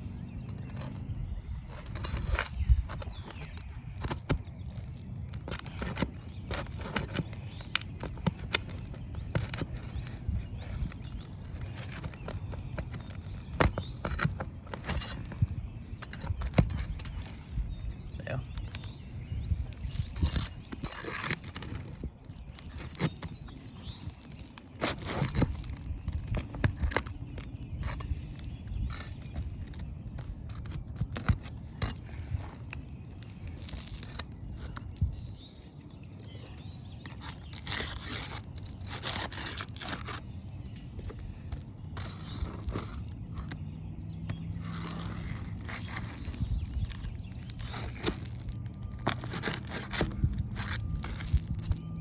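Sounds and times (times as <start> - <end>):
metal tool scraping roof shingles: 0.4 - 35.4, 36.3 - 43.6, 44.2 - 52.0.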